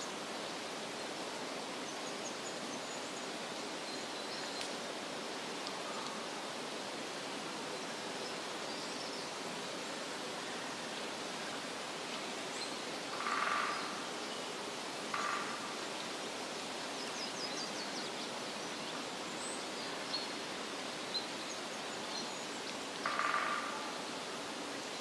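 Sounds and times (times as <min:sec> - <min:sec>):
steady rushing hiss: 0:00.0 - 0:25.0.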